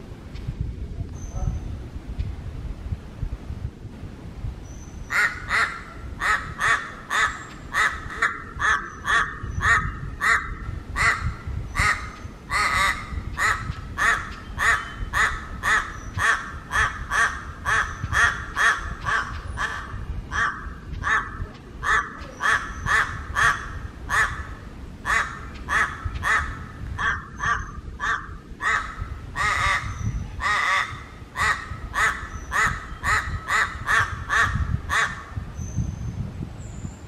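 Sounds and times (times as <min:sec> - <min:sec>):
crow calling: 0:05.1 - 0:35.4.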